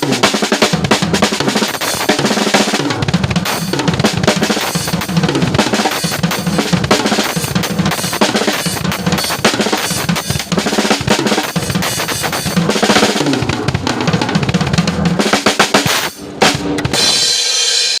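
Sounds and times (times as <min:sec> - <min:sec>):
drum kit playing fast: 0:00.0 - 0:18.0.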